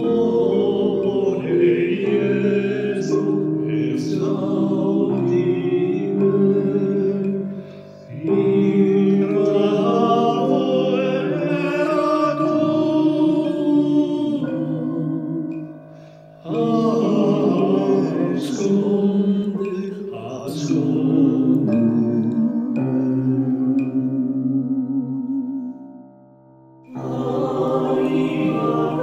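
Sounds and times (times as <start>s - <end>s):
choir singing a hymn: 0.0s - 15.7s, 16.4s - 25.5s, 26.9s - 29.0s.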